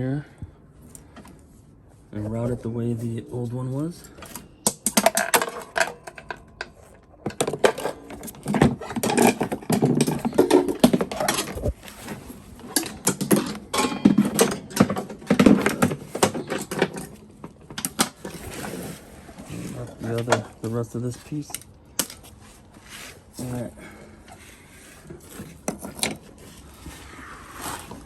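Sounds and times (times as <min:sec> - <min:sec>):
metal mower parts rattling: 0:03.6 - 0:26.9.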